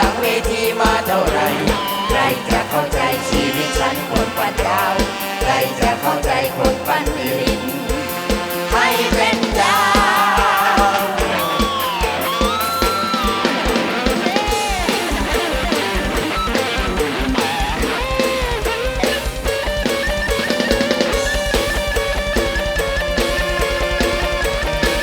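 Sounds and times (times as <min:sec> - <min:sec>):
band playing instrumental music: 0:00.0 - 0:25.0
lead melody with bending notes: 0:00.0 - 0:25.0.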